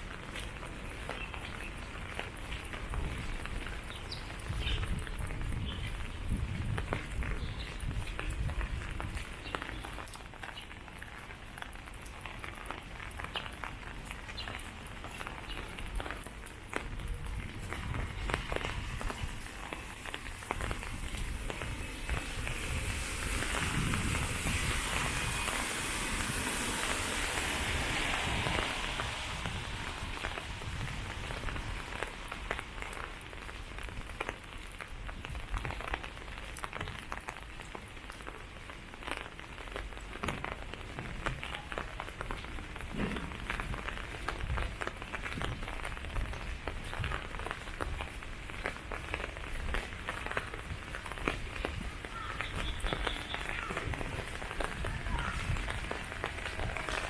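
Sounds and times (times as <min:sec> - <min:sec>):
rain hissing: 0:00.0 - 0:57.0.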